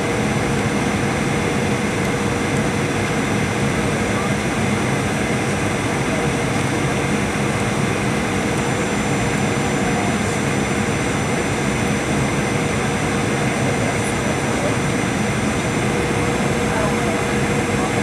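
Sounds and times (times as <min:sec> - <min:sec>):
airplane cabin airflow and drone: 0:00.0 - 0:18.0.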